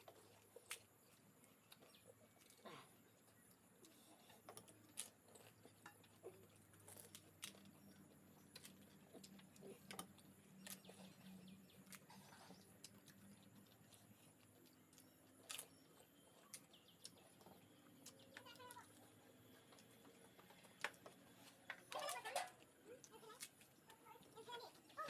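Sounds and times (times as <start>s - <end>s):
faint clicks and crackles: 0.0s - 25.0s.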